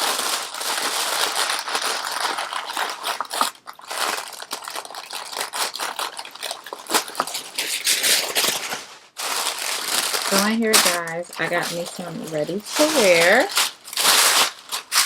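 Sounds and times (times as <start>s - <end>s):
paper packaging crinkling: 0.0s - 15.0s.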